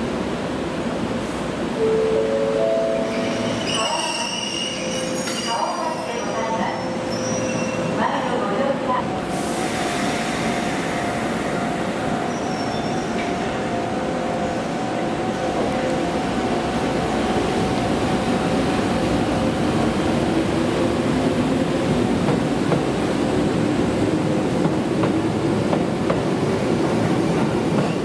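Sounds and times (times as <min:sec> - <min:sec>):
electric train passing: 0:00.0 - 0:28.0.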